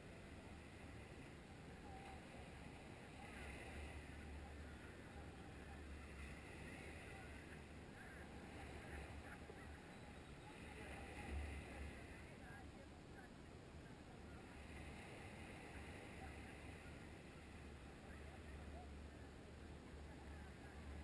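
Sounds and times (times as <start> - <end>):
distant surf: 0.0 - 21.0.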